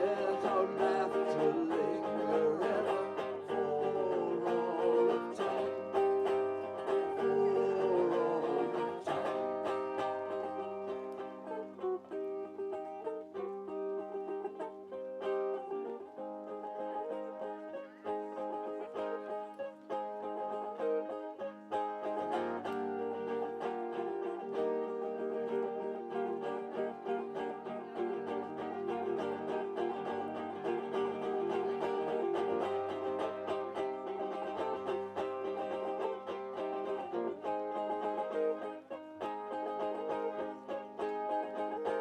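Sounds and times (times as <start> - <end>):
plucked string instrumental: 0.0 - 42.0.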